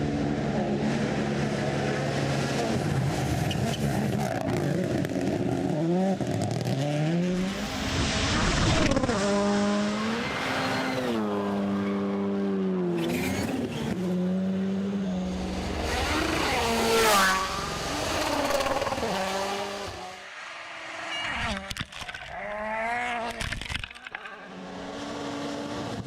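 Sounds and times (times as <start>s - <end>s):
car passing rush: 0.0s - 23.4s
rally car engine at full throttle: 0.0s - 26.0s.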